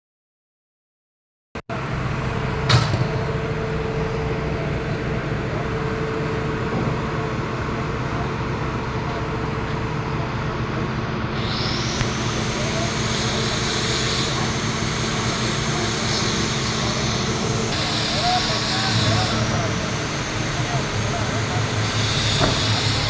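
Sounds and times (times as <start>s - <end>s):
welding arc humming and hissing: 1.9s - 23.0s.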